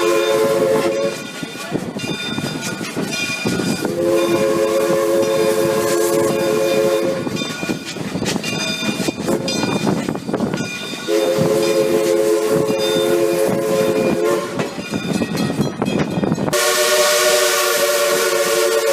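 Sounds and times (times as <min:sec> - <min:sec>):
steam locomotive chime whistle: 0:00.0 - 0:07.9, 0:08.7 - 0:15.6, 0:16.3 - 0:18.9
train running noise: 0:00.0 - 0:18.9.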